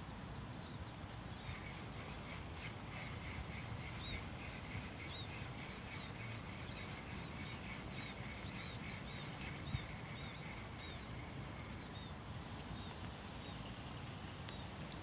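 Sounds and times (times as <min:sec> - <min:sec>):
low steady outdoor rumble: 0:00.0 - 0:15.0
small birds chirping: 0:00.6 - 0:14.9.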